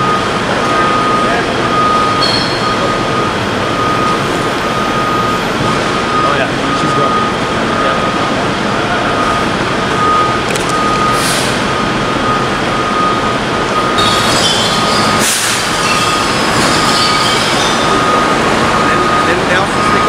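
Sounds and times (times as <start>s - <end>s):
backup alarm beeping: 0.0s - 20.0s
garbage truck engine and hydraulics: 0.0s - 20.0s.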